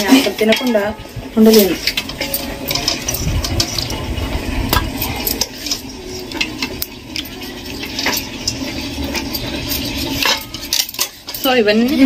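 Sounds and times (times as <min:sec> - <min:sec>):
ladle scraping in metal pot: 0:00.0 - 0:12.0
utensils clinking on steel plates: 0:00.0 - 0:12.0.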